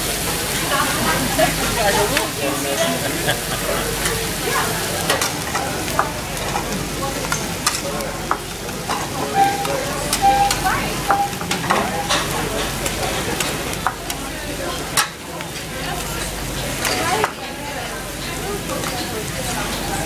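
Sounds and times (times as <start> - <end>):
food sizzling on griddle: 0.0 - 20.0.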